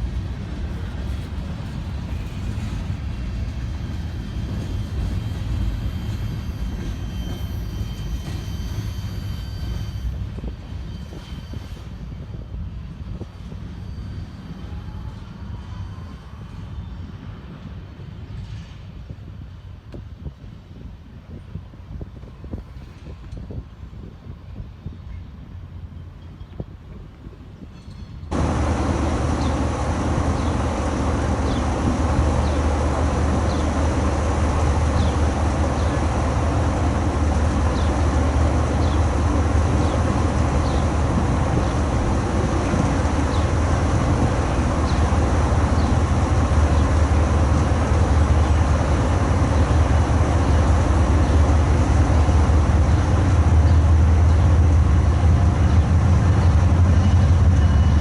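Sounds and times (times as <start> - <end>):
diesel locomotive droning: 0.0 - 58.0.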